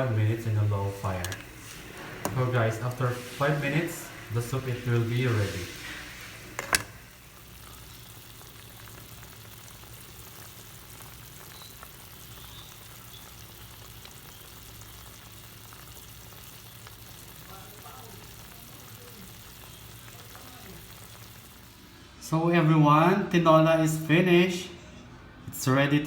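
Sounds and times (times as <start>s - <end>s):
soup simmering in a pot: 0.0s - 22.0s.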